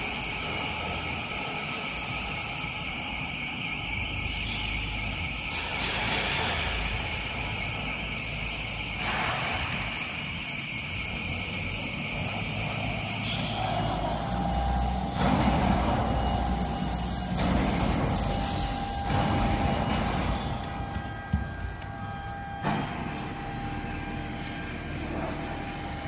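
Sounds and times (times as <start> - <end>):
cutting machine high whine: 0.0 - 26.0.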